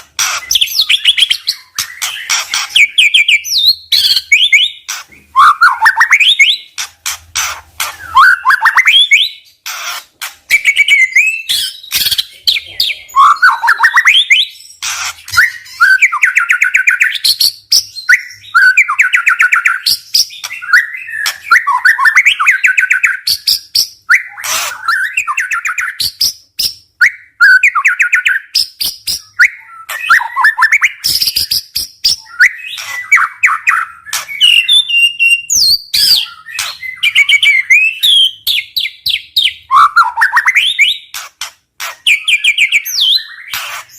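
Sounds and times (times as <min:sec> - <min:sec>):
songbird singing trills and whistles: 0:00.0 - 0:43.9.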